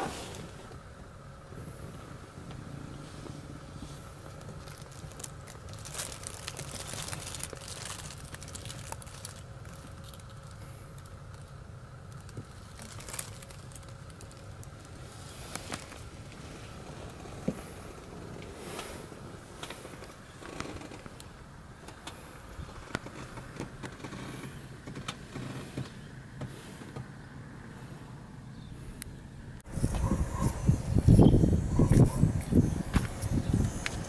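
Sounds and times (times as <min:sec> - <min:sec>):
faint steady whine: 0:00.0 - 0:34.0
steady low hum: 0:00.0 - 0:34.0.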